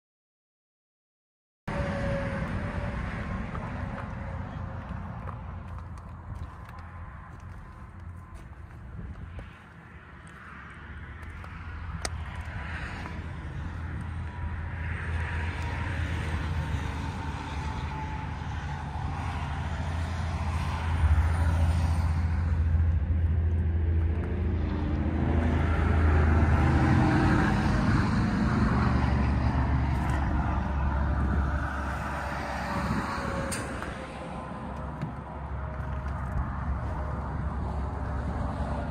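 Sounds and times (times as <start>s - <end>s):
faint tyre whine: 1.7s - 38.9s
highway traffic rumble: 1.7s - 38.9s.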